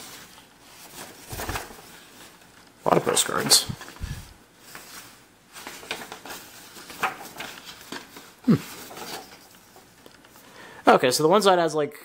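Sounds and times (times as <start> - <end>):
paper rustling: 0.0 - 10.4.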